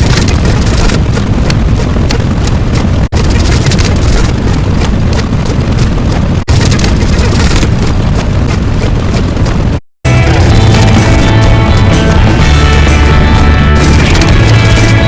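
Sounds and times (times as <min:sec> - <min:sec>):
continuous heavy rumbling: 0:00.0 - 0:15.0.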